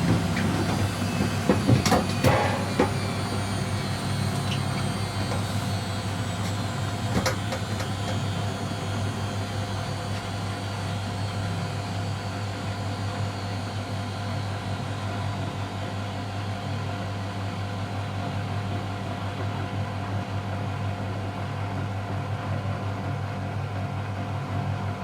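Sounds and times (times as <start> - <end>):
washing machine motor hum: 0.0 - 24.2
washing machine high whine: 0.0 - 25.0.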